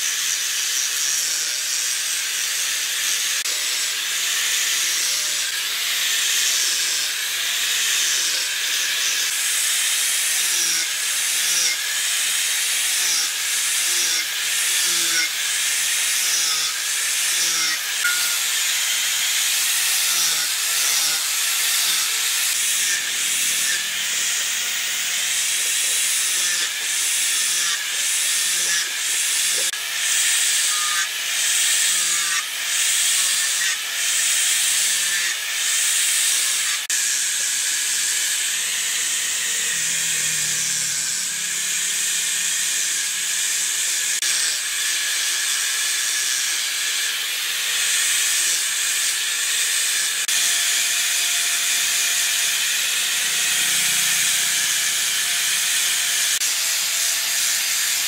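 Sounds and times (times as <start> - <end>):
angle grinder sanding wood: 0.0 - 58.0.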